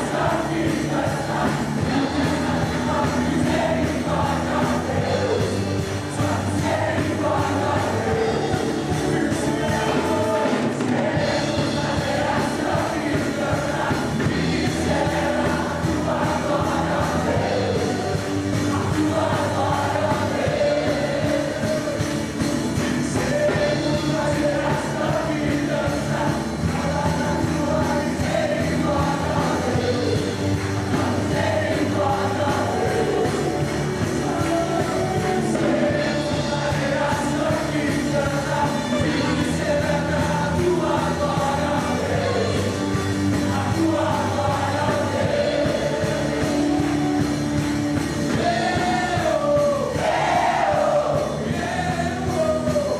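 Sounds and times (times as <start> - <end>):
song with band accompaniment: 0.0 - 52.9.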